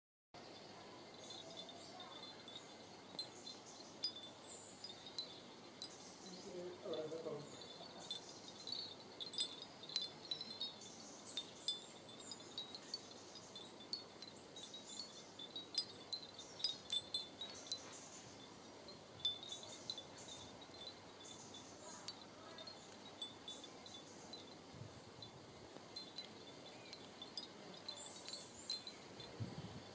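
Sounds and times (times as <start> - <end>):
glass wind chime tinkling: 0.4 - 29.9.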